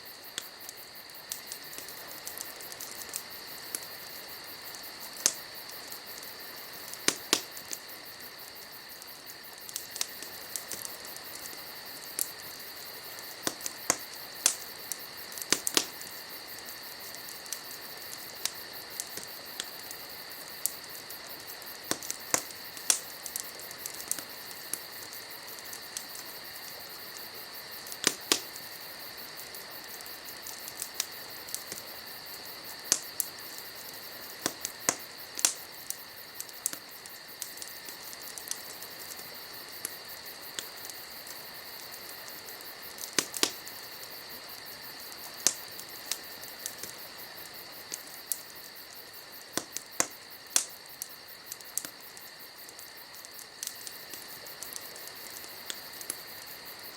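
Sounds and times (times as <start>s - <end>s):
crickets trilling: 0.0s - 56.9s
wood fire crackling: 0.0s - 56.9s.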